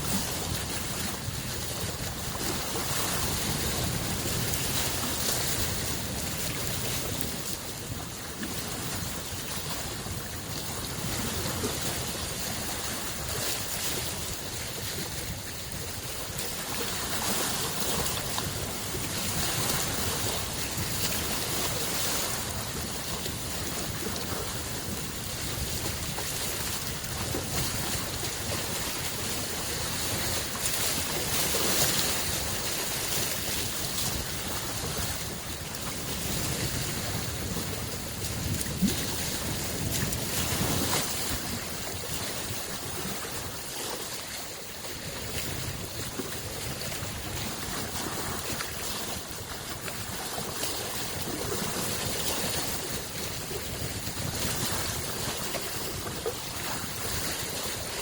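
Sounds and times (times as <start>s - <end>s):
lake waves lapping shore: 0.0s - 58.0s.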